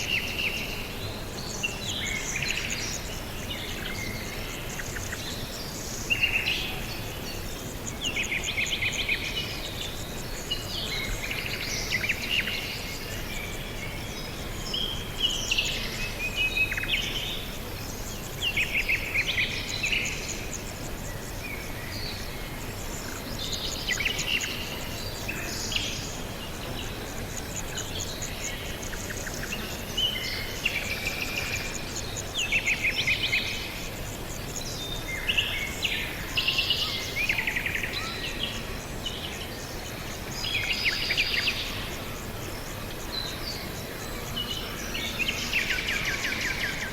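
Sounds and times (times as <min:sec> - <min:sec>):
background hiss: 0:00.0 - 0:46.9
small birds chirping: 0:00.0 - 0:46.9.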